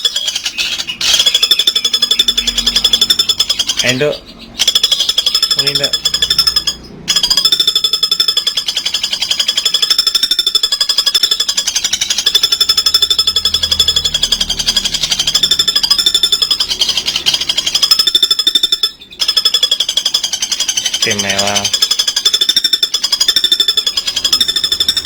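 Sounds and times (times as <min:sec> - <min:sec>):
bird high-pitched trill: 0:00.0 - 0:25.0.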